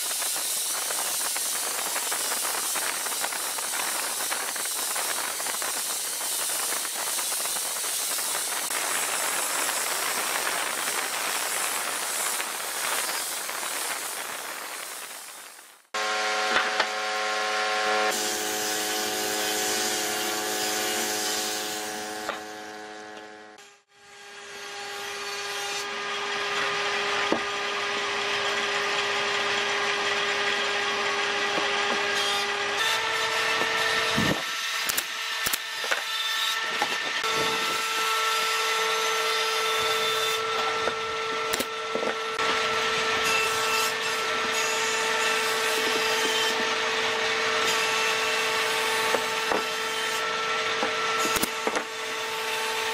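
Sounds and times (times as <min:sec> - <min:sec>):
power sander on wood: 0:00.0 - 0:23.3, 0:24.0 - 0:52.9.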